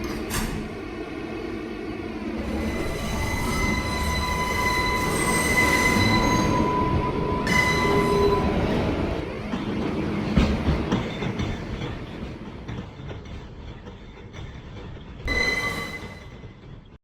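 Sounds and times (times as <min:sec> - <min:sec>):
subway train rumbling: 0:00.0 - 0:17.0
train wheels squealing on rails: 0:02.3 - 0:09.2, 0:10.2 - 0:17.0.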